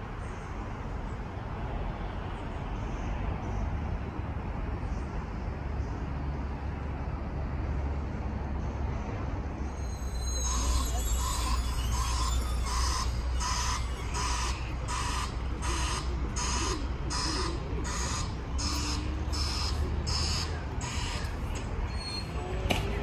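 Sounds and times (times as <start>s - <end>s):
sweeper engine hum: 2.0s - 23.0s.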